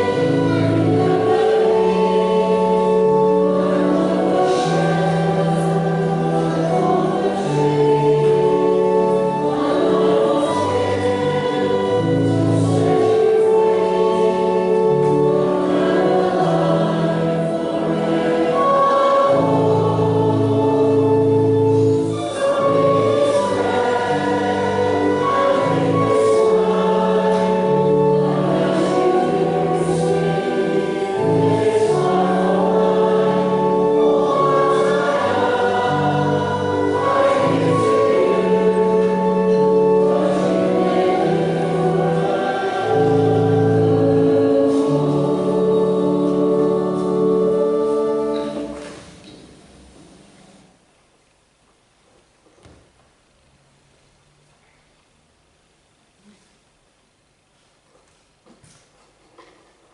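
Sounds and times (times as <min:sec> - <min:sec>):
choir singing a hymn: 0:00.0 - 0:49.2.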